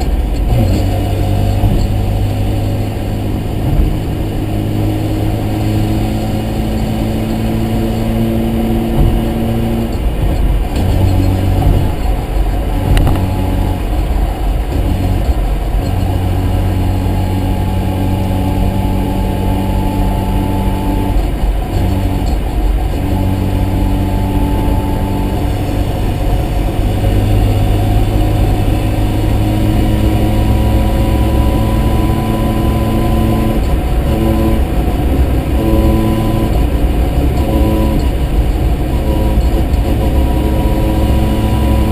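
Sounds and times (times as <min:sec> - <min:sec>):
car engine running: 0:00.0 - 0:41.9.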